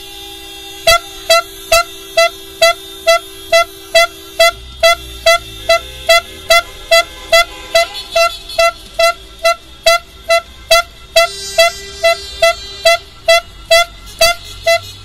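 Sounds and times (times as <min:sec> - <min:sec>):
long horn tone: 0:00.0 - 0:15.0
car horn short beeps: 0:00.8 - 0:15.0.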